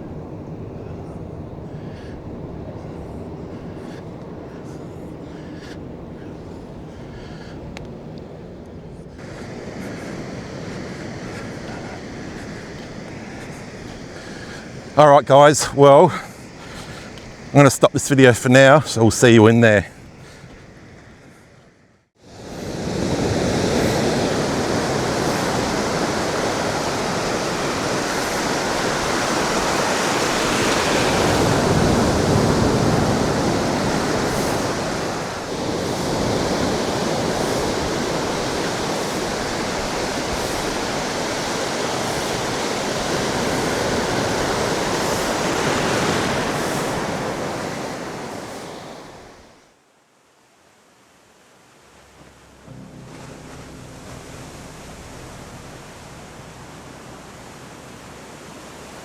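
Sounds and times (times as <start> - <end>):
ocean surf washing ashore: 0.0 - 49.8, 50.4 - 59.0.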